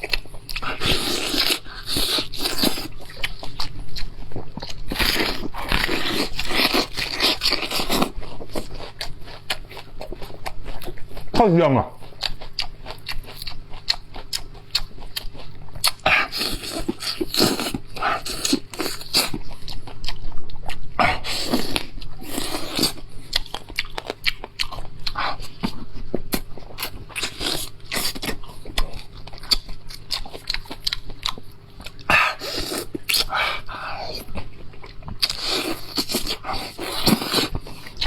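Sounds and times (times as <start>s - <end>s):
person chewing food: 0.0s - 11.3s, 11.9s - 38.0s.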